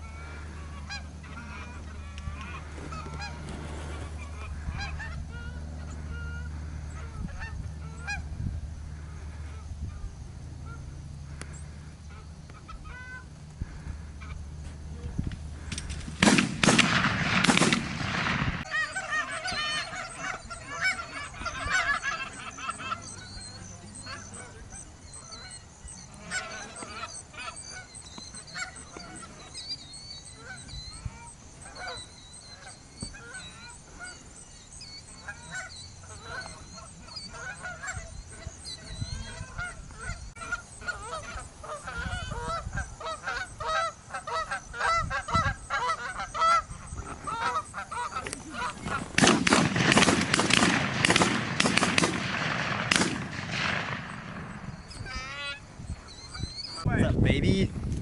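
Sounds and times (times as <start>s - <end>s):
geese honking: 0.0s - 57.7s.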